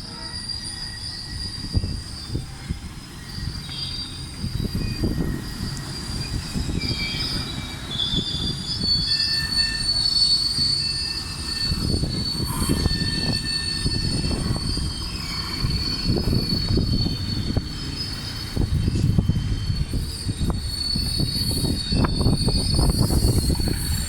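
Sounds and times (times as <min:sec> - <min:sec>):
rumble of rolling train: 0:00.0 - 0:24.0
train wheels squealing on rails: 0:00.0 - 0:24.0.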